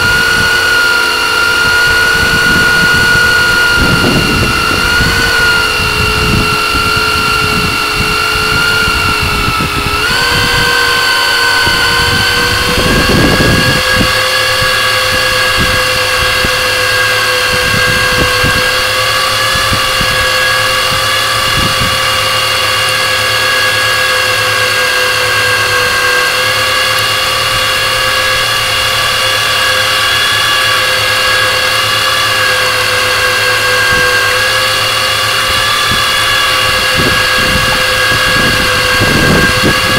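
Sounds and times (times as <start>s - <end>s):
wind buffeting microphone: 0.0s - 25.7s, 26.4s - 39.9s
boat engine whine: 0.0s - 39.9s.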